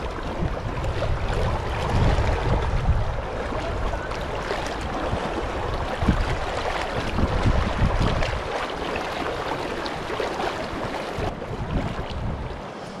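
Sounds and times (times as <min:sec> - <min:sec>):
river water rushing and splashing: 0:00.0 - 0:13.0
wind buffeting microphone: 0:00.0 - 0:13.0.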